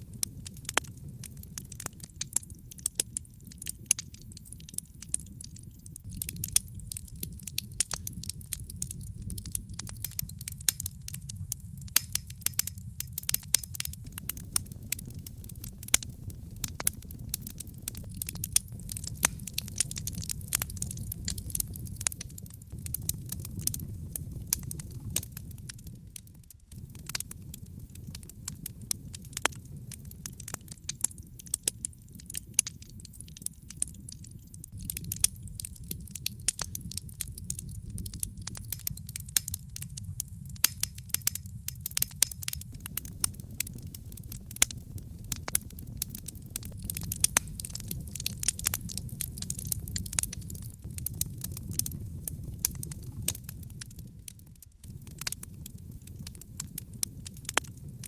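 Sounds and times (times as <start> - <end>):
flames rumbling: 0.0 - 58.0
wood fire crackling and popping: 0.0 - 58.0.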